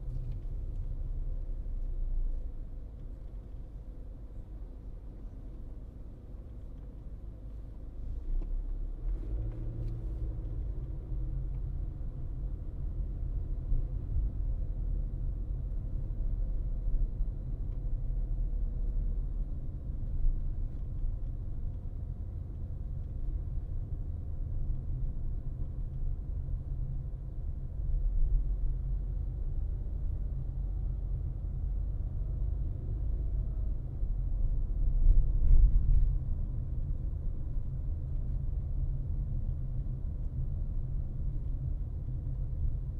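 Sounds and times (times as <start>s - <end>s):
car tyres and engine rumbling: 0.0s - 42.9s.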